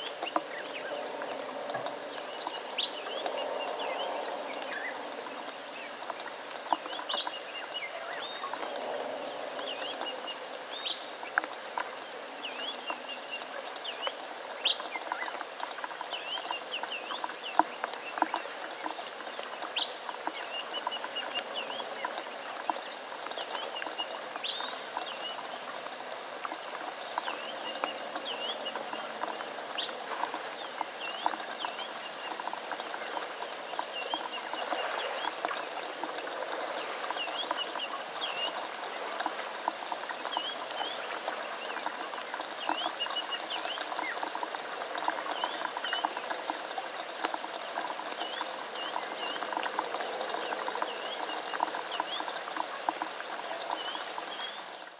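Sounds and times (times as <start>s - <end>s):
rain pattering on water: 0.0s - 54.9s
sharp drip ticks: 0.0s - 54.9s.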